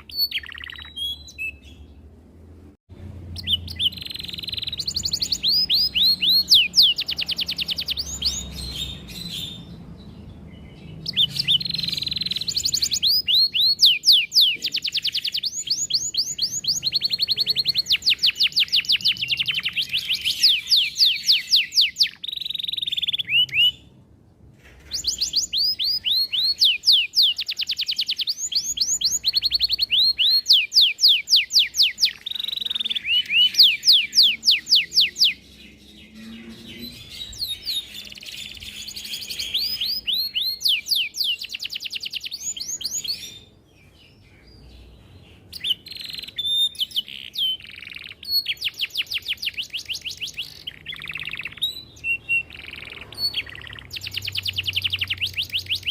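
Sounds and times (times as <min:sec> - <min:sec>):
canary singing trills: 0:00.0 - 0:02.2, 0:03.1 - 0:24.0, 0:24.8 - 0:55.9.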